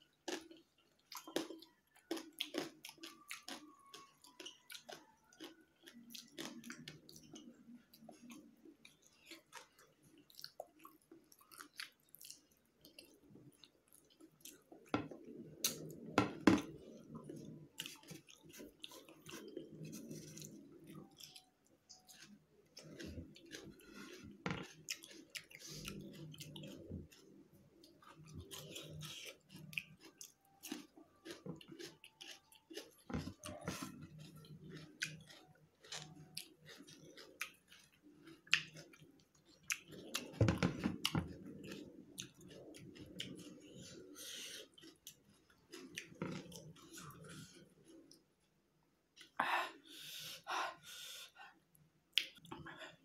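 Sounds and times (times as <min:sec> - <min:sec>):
close-up chewing with wet clicks: 0:00.0 - 0:48.3, 0:51.7 - 0:52.6.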